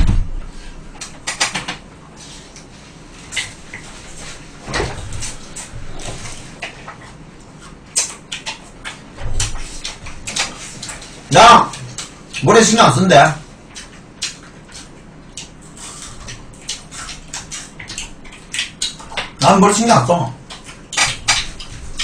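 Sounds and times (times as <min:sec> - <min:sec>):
chewing and crunching food: 0:00.6 - 0:12.8, 0:13.4 - 0:22.0.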